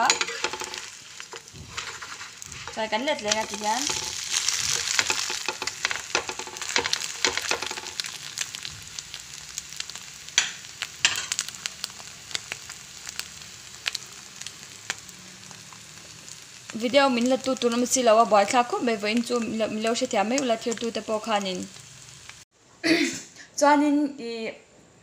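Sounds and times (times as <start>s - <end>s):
flatbread sizzling in oil: 0.0s - 22.5s
sharp crackles and pops: 0.0s - 22.5s.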